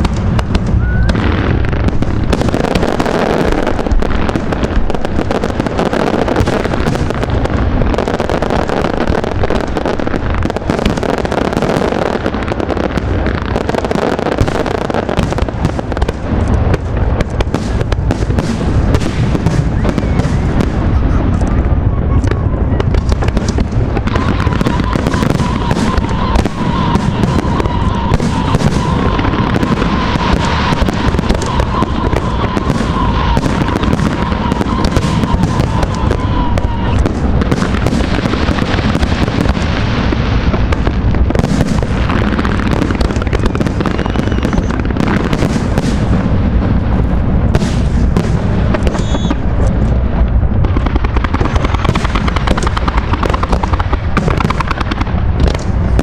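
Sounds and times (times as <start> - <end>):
fireworks bangs and crackles: 0.0 - 56.0
heavy rumble: 0.0 - 56.0.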